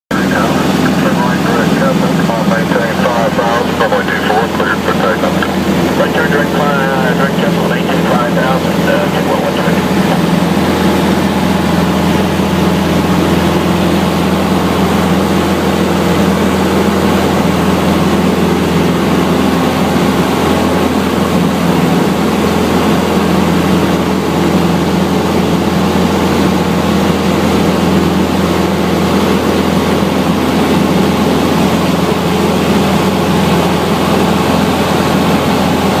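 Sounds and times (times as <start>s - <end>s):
airplane engine and propeller drone: 0.1s - 36.0s.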